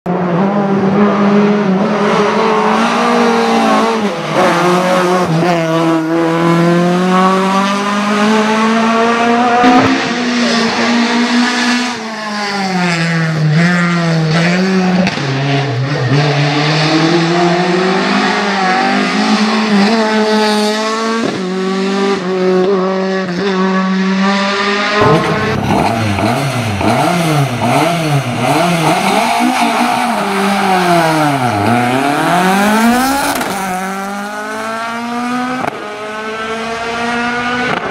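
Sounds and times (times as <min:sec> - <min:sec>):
racing engine revving: 0:00.1 - 0:37.9.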